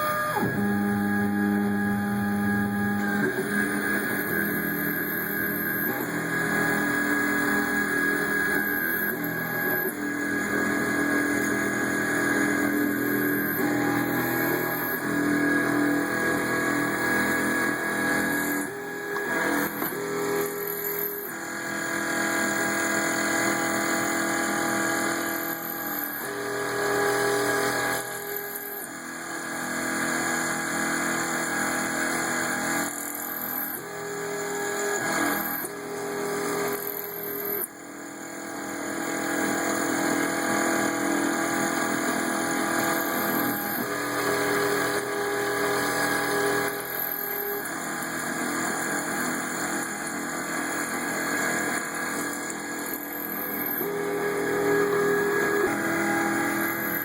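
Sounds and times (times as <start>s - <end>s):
milling machine spindle running: 0.0s - 57.0s
motors whining: 0.0s - 57.0s.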